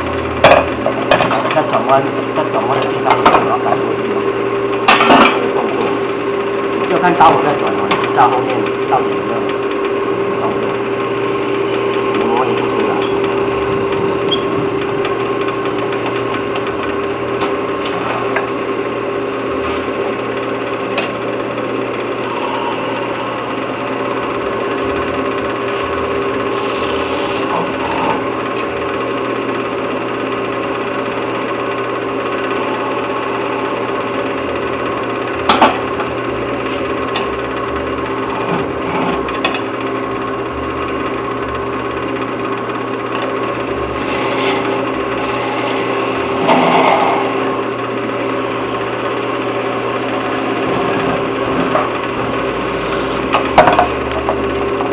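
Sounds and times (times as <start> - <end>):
turning tool cutting wood: 0.0 - 54.9
wood lathe motor running: 0.0 - 54.9.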